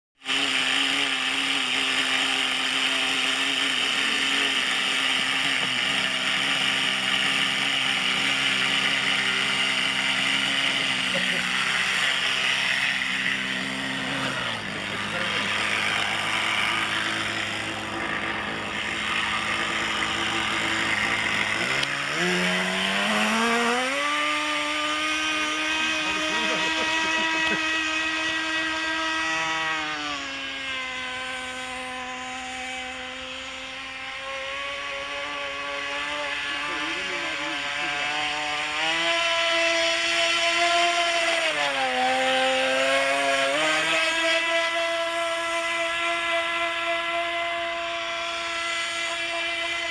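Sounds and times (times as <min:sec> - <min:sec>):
model boat engine running: 0:00.2 - 0:49.9.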